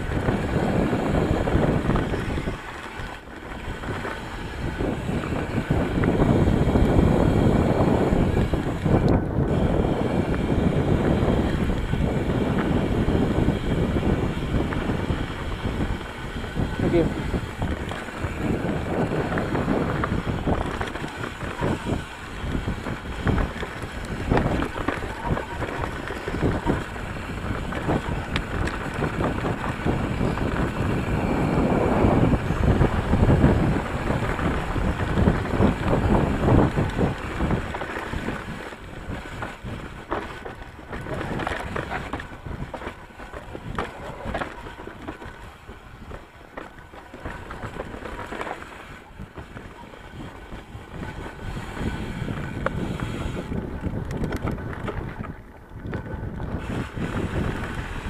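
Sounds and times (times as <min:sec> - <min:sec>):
bike clattering and rattling: 0:00.0 - 0:58.0
wind rushing over microphone: 0:00.0 - 0:58.0.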